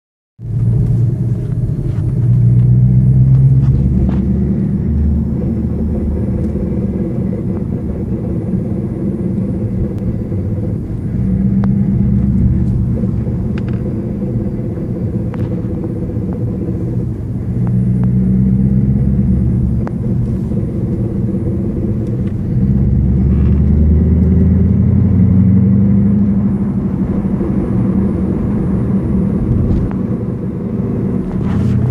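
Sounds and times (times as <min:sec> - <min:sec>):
car rear axle whining drone: 0:00.4 - 0:31.9.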